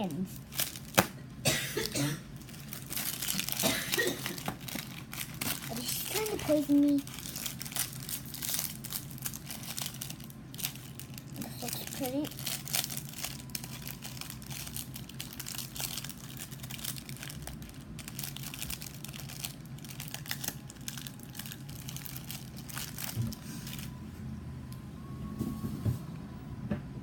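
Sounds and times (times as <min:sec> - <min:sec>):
plastic wrapper crinkling: 0:00.3 - 0:01.4, 0:02.3 - 0:24.0.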